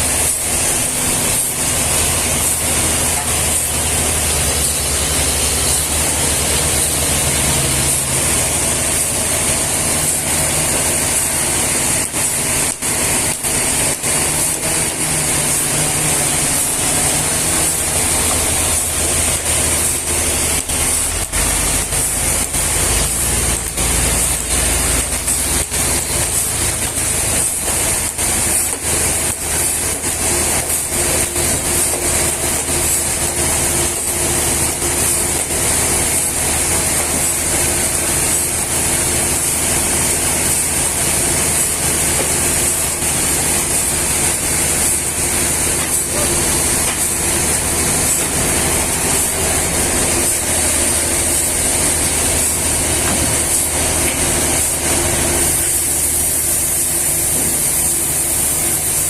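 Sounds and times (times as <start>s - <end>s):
machinery hiss and hum: 0.0s - 59.0s.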